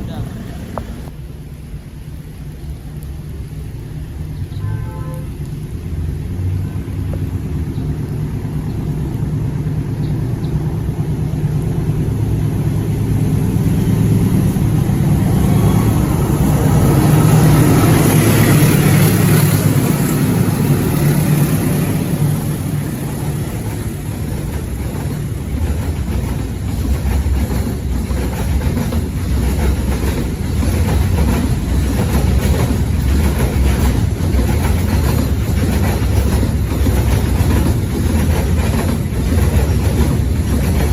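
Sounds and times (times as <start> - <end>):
locomotive engine passing: 0.0 - 2.4, 5.2 - 40.9
train wheels clicking over rail joints: 7.1 - 40.9.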